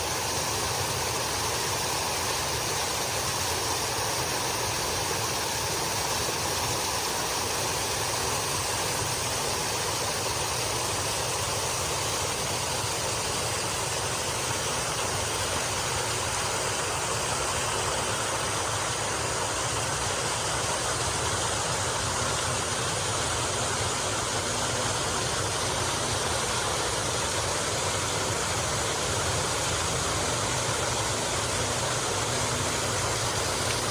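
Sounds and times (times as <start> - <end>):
waterfall pouring into pool: 0.0 - 33.9.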